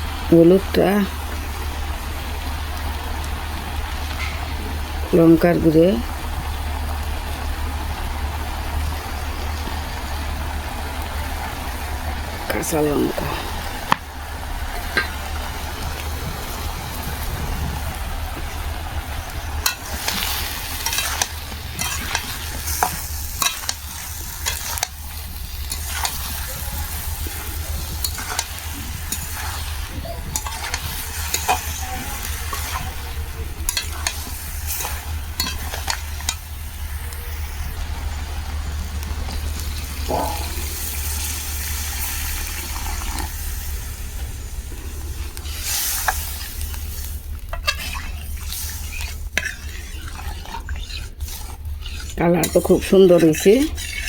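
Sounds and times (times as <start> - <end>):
curry sizzling in a pan: 0.0 - 54.0
steady low hum: 0.0 - 54.0.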